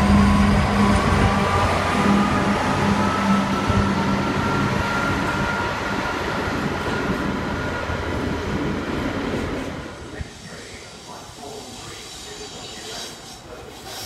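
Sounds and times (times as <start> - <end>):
locomotive engine hum: 0.0 - 11.6
freight train rolling on rails: 0.0 - 14.0.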